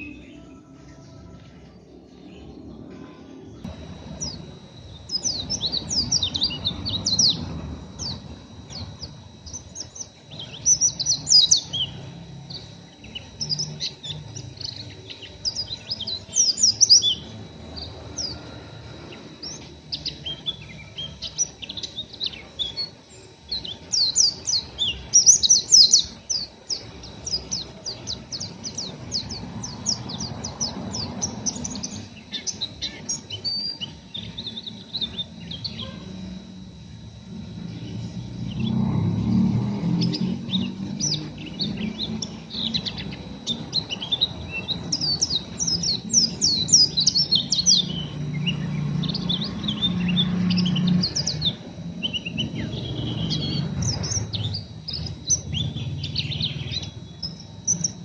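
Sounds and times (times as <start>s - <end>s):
bird twittering: 3.6s - 58.0s.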